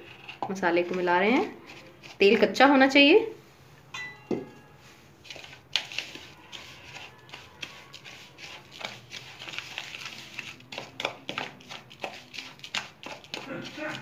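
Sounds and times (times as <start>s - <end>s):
spoon scraping in plastic bowl: 0.0s - 3.0s, 5.2s - 14.0s.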